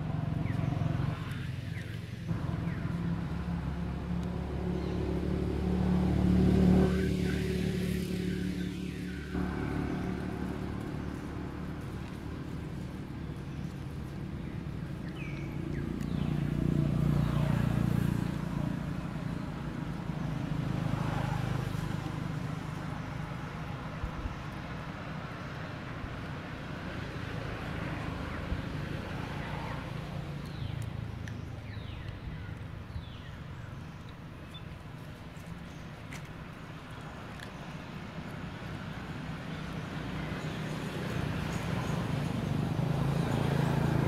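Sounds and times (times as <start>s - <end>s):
rumble of passing traffic: 0.0s - 44.0s.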